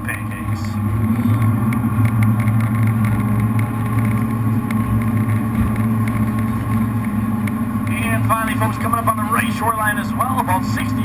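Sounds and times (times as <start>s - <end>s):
boat engines humming: 0.0s - 11.0s.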